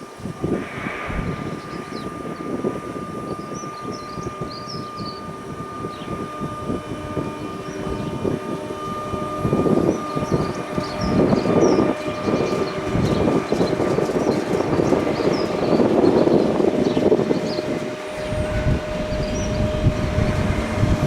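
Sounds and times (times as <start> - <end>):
train high whine: 0.0 - 21.0
train rumble: 0.0 - 21.0.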